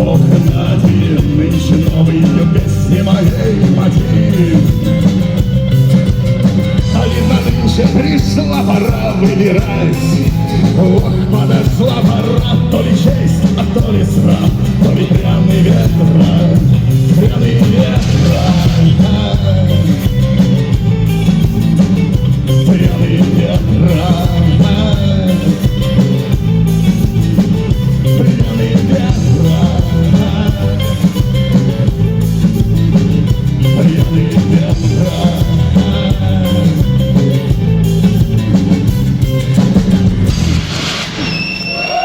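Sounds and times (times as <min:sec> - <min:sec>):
rock band playing live: 0:00.0 - 0:42.0.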